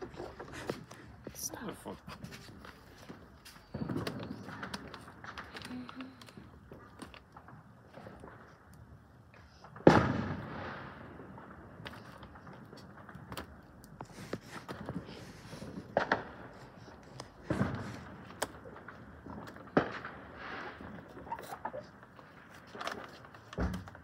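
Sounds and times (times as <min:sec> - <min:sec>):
firework explosions: 0:00.0 - 0:24.0.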